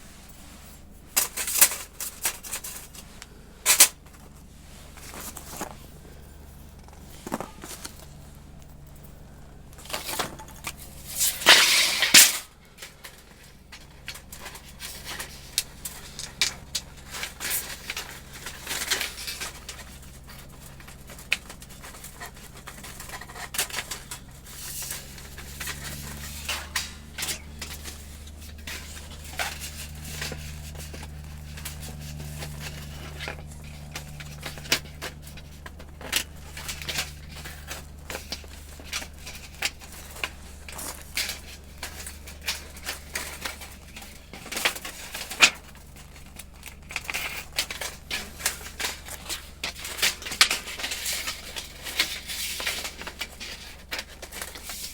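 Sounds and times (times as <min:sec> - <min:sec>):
rustling scrape: 0:00.0 - 0:54.9
steady low hum: 0:00.0 - 0:54.9
metal plates clicking and clinking: 0:07.4 - 0:54.9.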